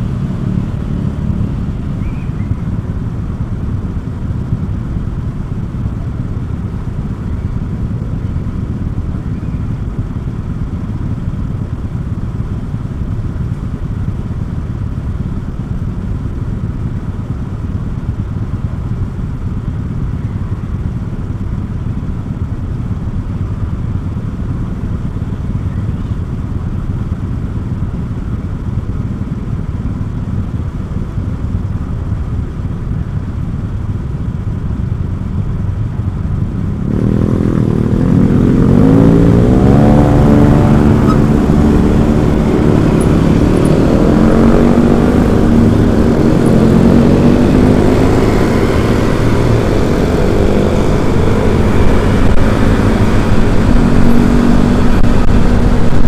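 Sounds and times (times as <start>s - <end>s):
motorcycle engine rumble: 0.0s - 56.0s
wind and road noise: 0.0s - 56.0s.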